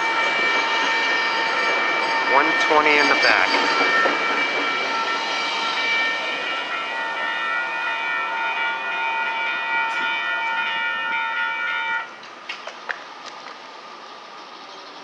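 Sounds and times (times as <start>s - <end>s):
crossing warning bell ringing: 0.0s - 12.2s.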